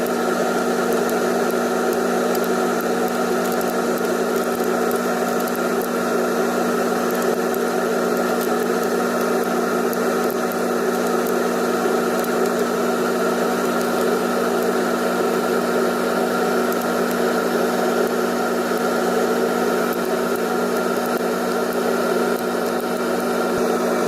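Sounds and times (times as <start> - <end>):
electric motor humming: 0.0 - 24.0.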